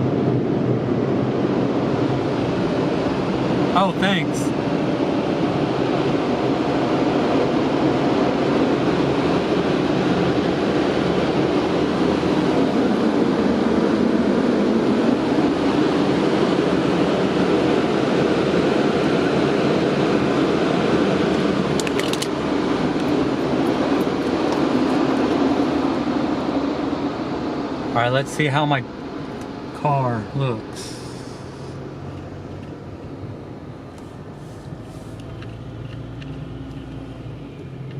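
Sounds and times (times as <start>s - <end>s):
car wash blowers rushing air: 0.0s - 37.9s.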